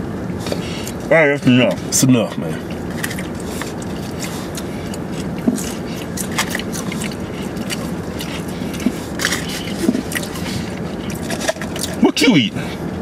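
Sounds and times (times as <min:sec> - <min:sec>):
low car cabin hum: 0:00.0 - 0:13.0
person chewing fries: 0:00.4 - 0:01.1, 0:02.6 - 0:12.9.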